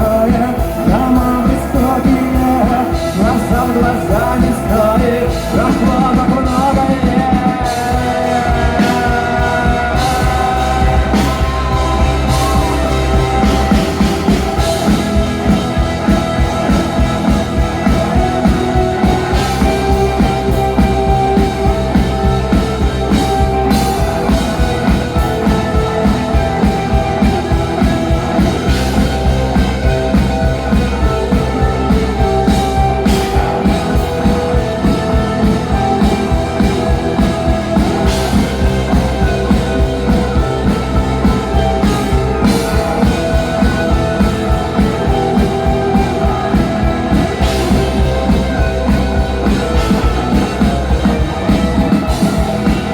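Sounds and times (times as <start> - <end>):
rock music with guitar and drums: 0.0 - 52.9.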